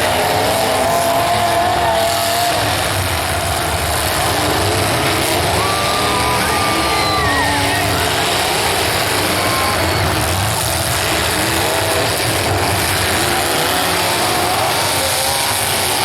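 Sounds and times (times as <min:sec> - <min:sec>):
car engines revving loudly: 0:00.0 - 0:16.0
constant rumble: 0:00.0 - 0:16.0.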